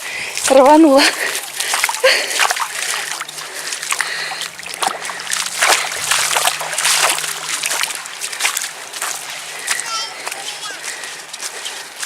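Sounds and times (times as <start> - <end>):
splashing in shallow water: 0.0 - 12.0.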